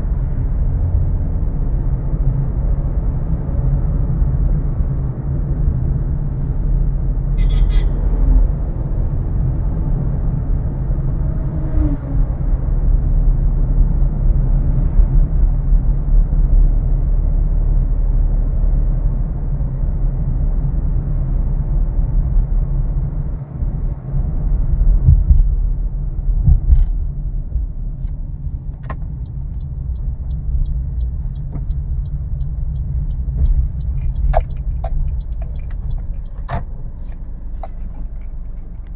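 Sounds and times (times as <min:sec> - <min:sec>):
car engine rumble and road noise: 0:00.0 - 0:38.9.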